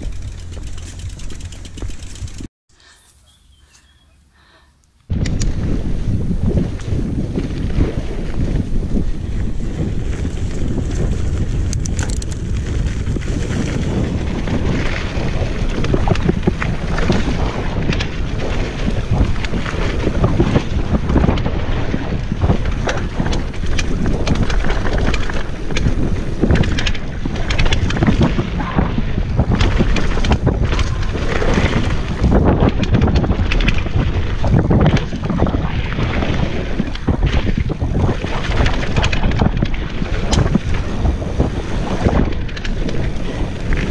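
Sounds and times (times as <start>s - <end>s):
wind buffeting microphone: 0.0s - 2.5s, 5.1s - 43.9s
bike knocking and rattling: 0.0s - 3.0s, 6.5s - 43.9s.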